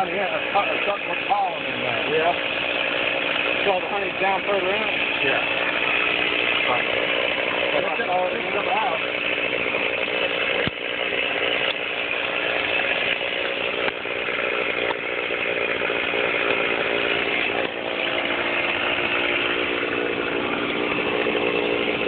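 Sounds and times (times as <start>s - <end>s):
chainsaw running at high speed: 0.0s - 22.0s.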